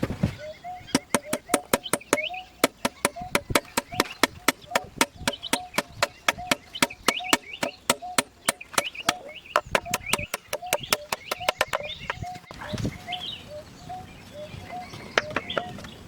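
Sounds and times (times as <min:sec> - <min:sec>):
chickens clucking: 0:00.0 - 0:13.7.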